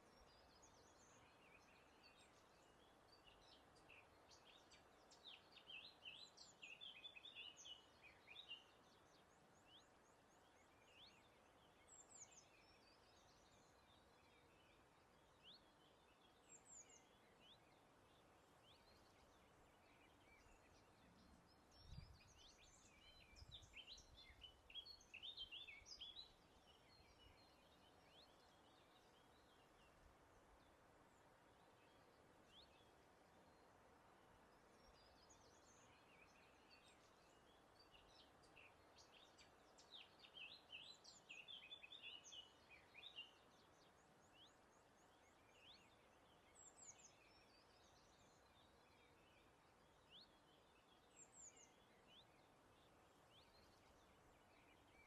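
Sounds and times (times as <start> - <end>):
soft breeze: 0.0 - 55.0
songbirds chirping: 0.0 - 55.0.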